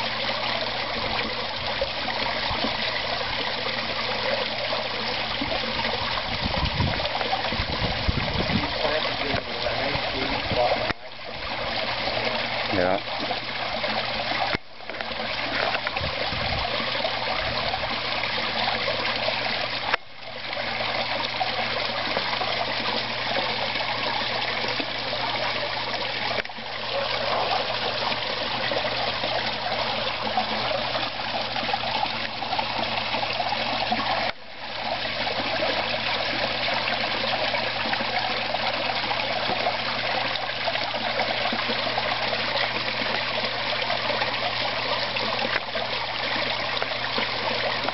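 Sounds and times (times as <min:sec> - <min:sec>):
waterfall splashing into pond: 0:00.0 - 0:47.9.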